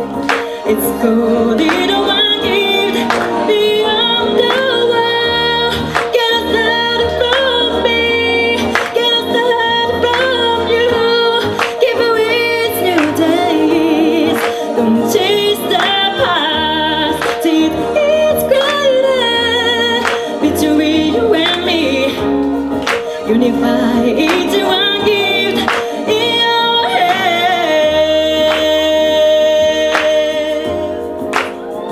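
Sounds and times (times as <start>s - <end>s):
instrumental accompaniment: 0.0s - 31.9s
woman singing into a microphone: 0.0s - 31.9s.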